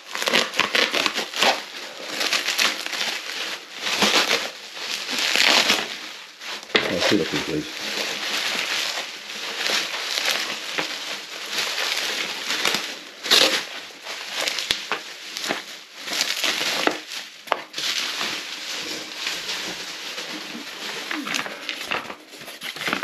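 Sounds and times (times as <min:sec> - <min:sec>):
bubble wrap crinkling: 0:00.0 - 0:23.0.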